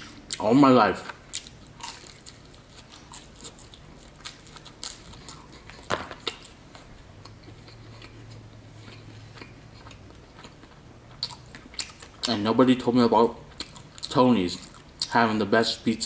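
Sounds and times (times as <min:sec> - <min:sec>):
person chewing: 0:00.0 - 0:12.4, 0:13.4 - 0:15.2
faint low hum: 0:00.0 - 0:16.0.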